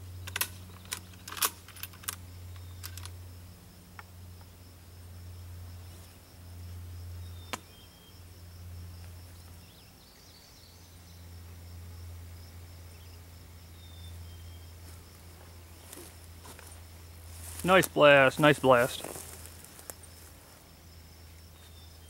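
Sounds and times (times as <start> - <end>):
pulsing high insect buzz: 0.0 - 22.0.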